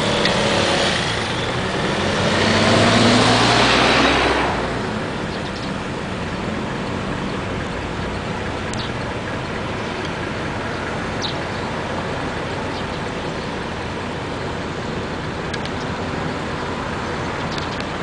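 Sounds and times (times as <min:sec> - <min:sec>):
vehicle road noise: 0:00.0 - 0:18.0.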